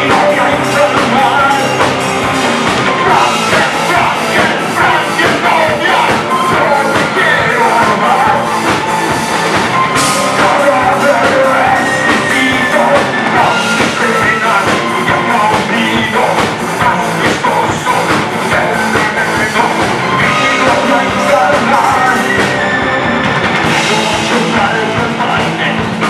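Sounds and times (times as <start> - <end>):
punk rock band playing: 0.0 - 26.0
singer yelling: 2.8 - 9.2, 9.8 - 26.0.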